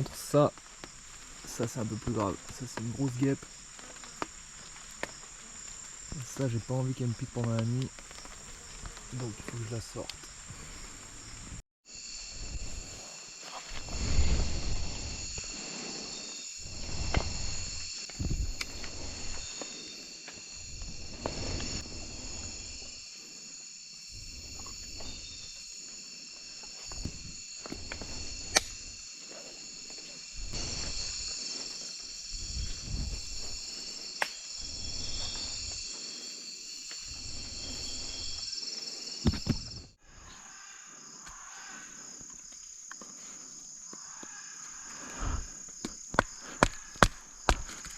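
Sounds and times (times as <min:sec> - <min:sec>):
insect chorus buzzing and trilling: 0:00.0 - 0:47.9.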